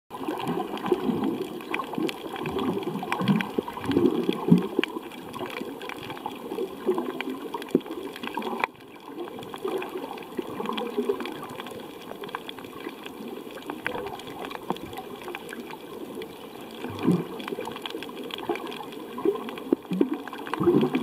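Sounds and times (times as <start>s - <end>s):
muffled underwater water gurgling: 0.1s - 21.0s.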